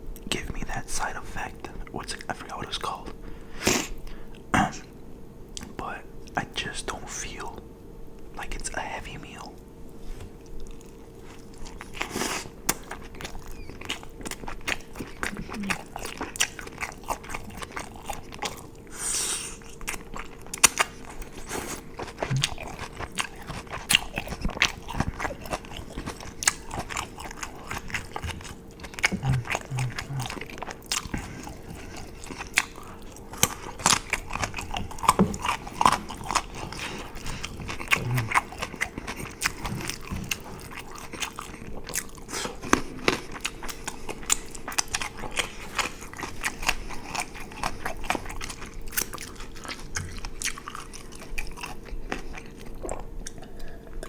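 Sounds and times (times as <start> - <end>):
faint steady hum: 0.0 - 54.0
food crunching: 9.4 - 54.0
close chewing with mouth clicks: 9.5 - 54.0.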